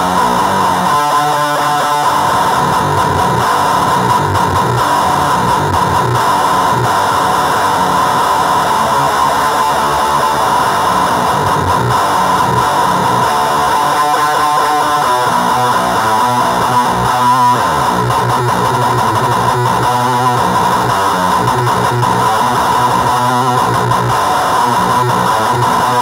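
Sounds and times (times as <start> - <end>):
distorted electric guitar: 0.0 - 26.0.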